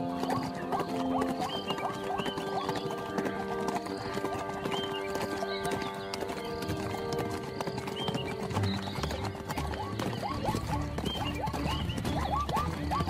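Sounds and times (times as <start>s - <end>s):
horse hooves clopping: 0.0s - 13.0s.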